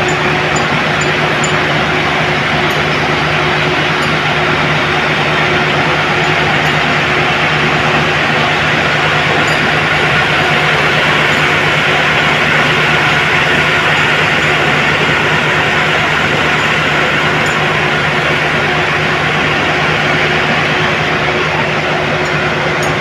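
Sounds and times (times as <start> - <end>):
dense mechanical noise: 0.0 - 23.0
heavy machinery engine hum: 0.0 - 23.0.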